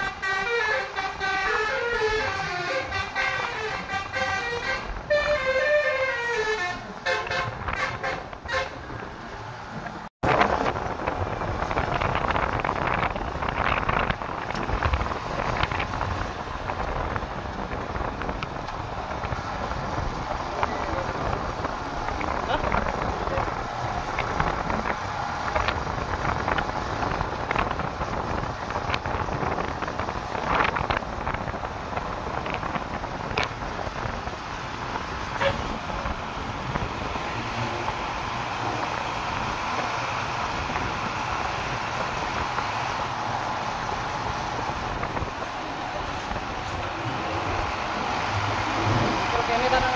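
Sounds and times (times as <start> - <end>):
road traffic rumbling: 0.0 - 49.9
wind buffeting microphone: 7.2 - 49.9.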